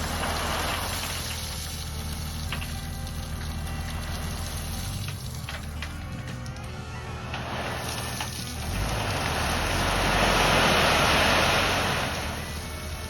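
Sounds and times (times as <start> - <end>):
rain hissing: 0.0 - 5.4, 7.6 - 13.0
truck engine running: 0.0 - 13.0.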